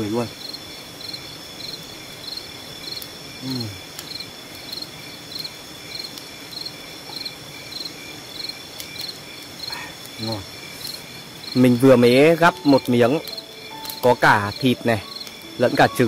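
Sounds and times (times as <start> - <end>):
crickets chirping: 0.0 - 16.0
high insect drone: 0.0 - 16.0.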